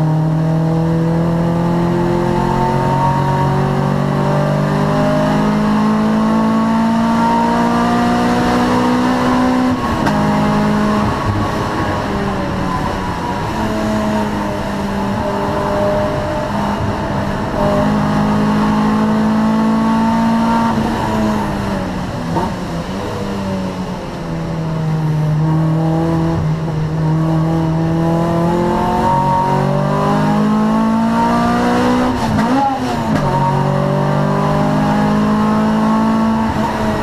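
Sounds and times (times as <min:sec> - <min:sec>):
car engine revving under load: 0:00.0 - 0:37.0.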